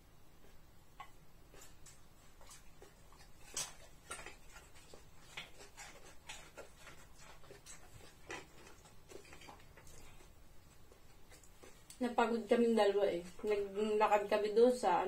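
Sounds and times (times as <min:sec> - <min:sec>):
raw vegetables being chewed: 0:00.4 - 0:12.6.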